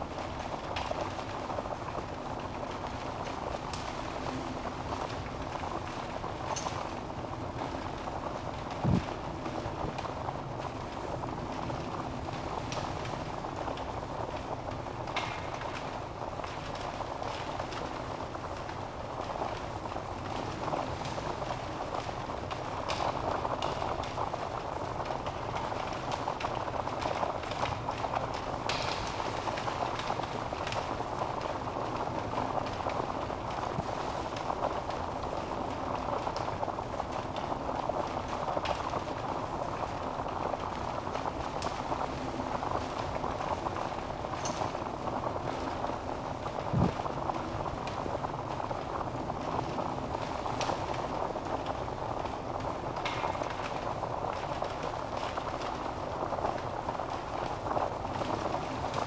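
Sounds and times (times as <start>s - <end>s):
fire crackling and popping: 0.0s - 59.0s
wood fire hissing: 0.0s - 59.0s.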